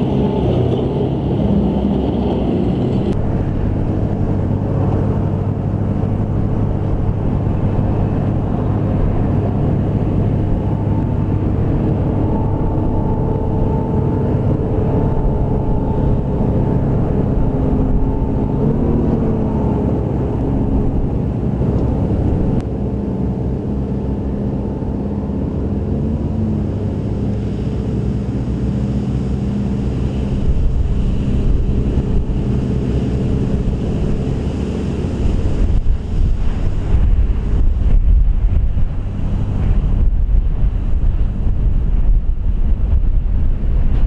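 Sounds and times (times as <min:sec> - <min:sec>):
tractor engine under load: 0:00.0 - 0:44.0
wind buffeting microphone: 0:00.0 - 0:44.0.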